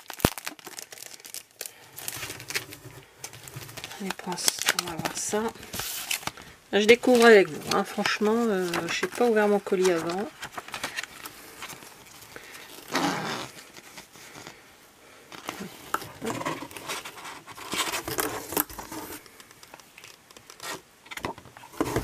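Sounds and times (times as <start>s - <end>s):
plastic packaging crinkling: 0.0s - 14.6s, 15.3s - 22.0s.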